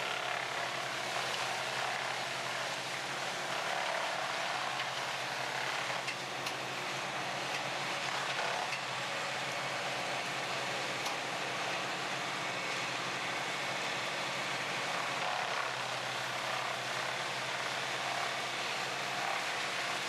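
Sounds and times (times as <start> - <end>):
wood chipper engine drone: 0.0 - 20.0.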